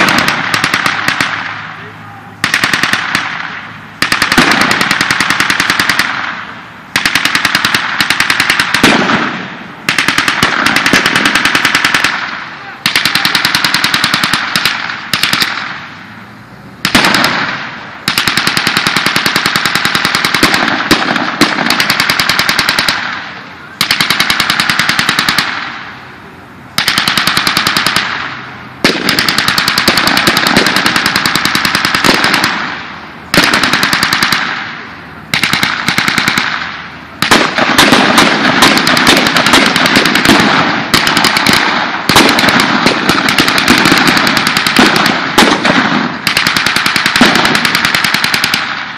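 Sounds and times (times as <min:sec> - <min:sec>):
automatic gunfire bursts: 0:00.0 - 0:15.8, 0:16.8 - 0:26.0, 0:26.8 - 0:48.9.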